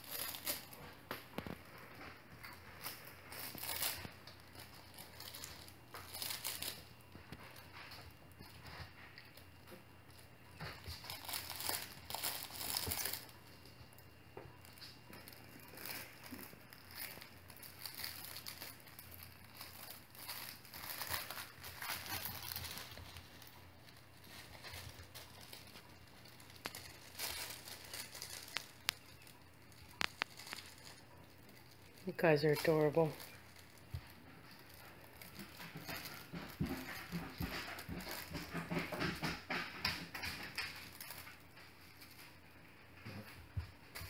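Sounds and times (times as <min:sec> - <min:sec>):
crinkling and rustling of blankets: 0:00.0 - 0:44.0.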